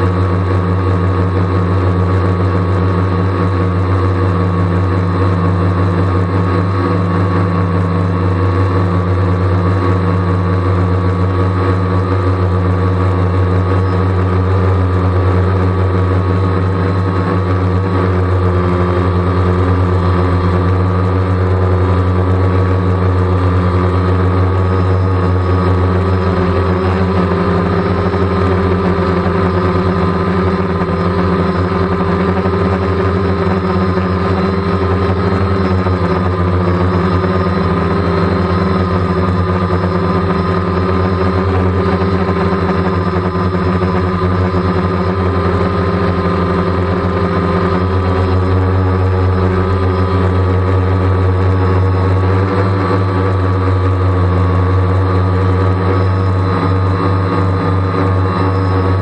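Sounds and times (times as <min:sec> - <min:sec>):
drone propellers humming: 0:00.0 - 0:59.0.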